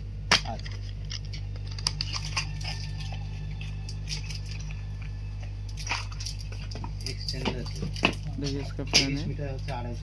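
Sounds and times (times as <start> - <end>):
steady low hum: 0.0 - 10.0
hands handling packaging: 0.3 - 9.2.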